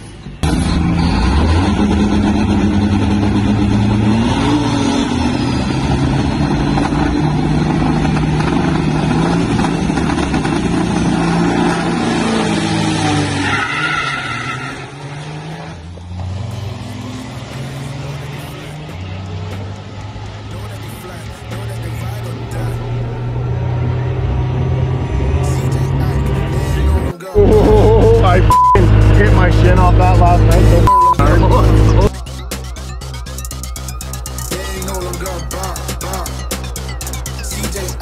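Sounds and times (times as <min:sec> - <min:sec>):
truck diesel engine at full throttle: 0:00.0 - 0:38.0.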